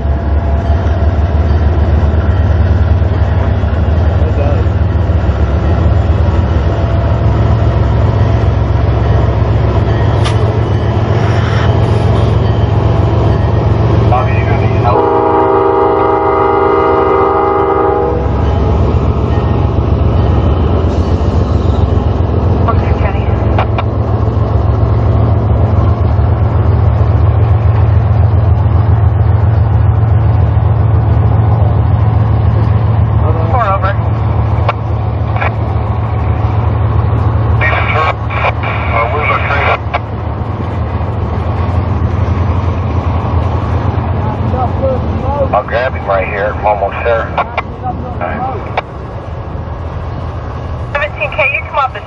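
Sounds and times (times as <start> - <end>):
train rumbling: 0.0 - 52.0.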